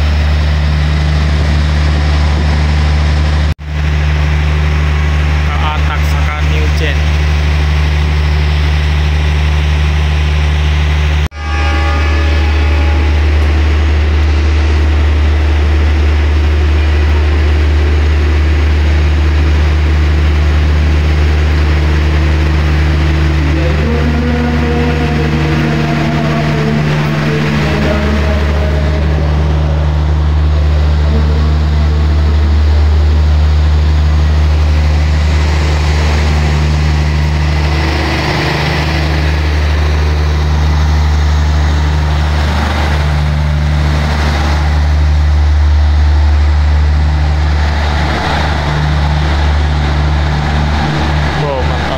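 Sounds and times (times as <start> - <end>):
diesel train engine drone: 0.0 - 51.9
higher engine note: 0.0 - 51.9.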